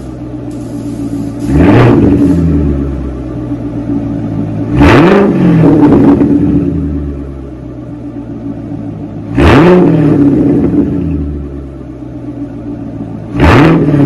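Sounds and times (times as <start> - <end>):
car engine revving from idle: 0.0 - 14.0.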